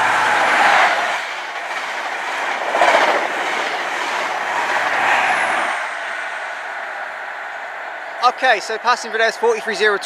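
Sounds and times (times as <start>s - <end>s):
train wheels rushing on rail: 0.0s - 10.0s.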